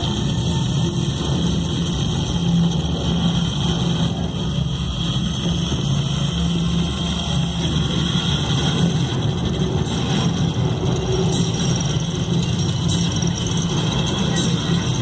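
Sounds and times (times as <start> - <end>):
low rumbling drone over loudspeakers: 0.0 - 15.0.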